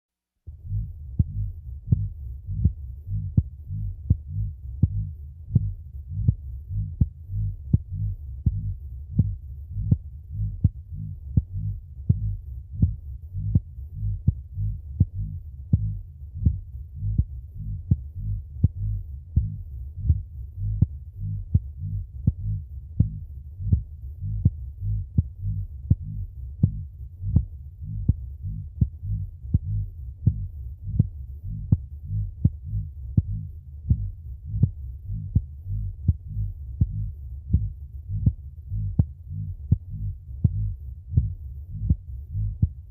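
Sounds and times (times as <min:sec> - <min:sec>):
heartbeat thudding: 0:00.5 - 0:42.9.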